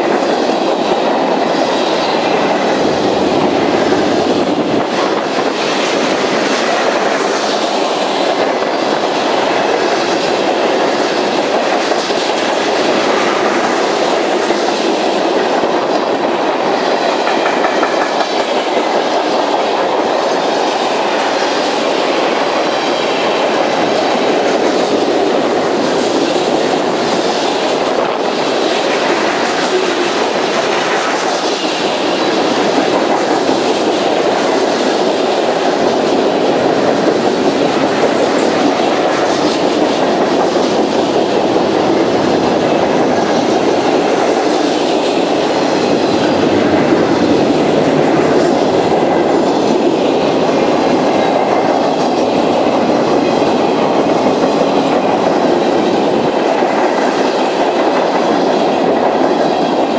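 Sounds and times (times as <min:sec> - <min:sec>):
freight train rolling past: 0:00.0 - 0:59.9.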